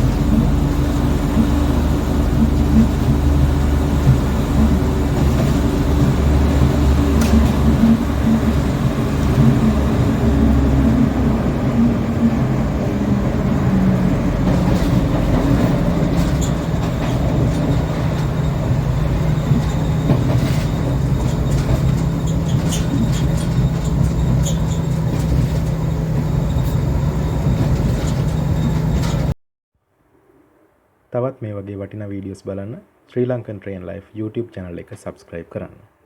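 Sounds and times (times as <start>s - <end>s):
train rumbling on rails: 0.0s - 29.4s.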